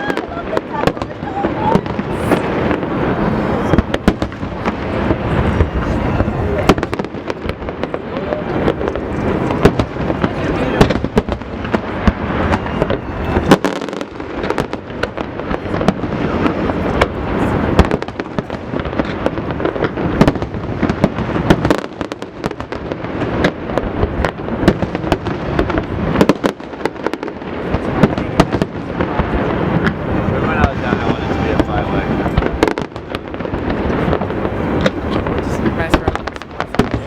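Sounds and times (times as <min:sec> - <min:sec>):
fireworks bangs and crackle: 0:00.0 - 0:37.0.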